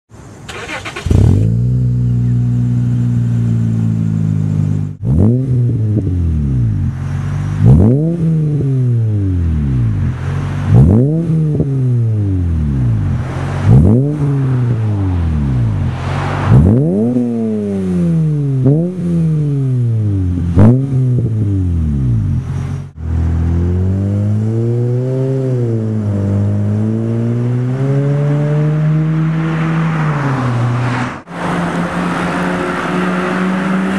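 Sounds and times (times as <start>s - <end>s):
car engine revving: 0.5s - 33.9s.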